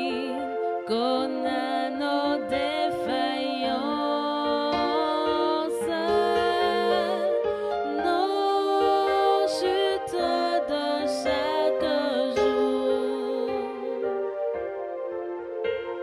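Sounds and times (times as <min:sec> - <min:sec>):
person singing a hymn: 0:00.0 - 0:14.9
sustained accompaniment chords: 0:00.0 - 0:16.0.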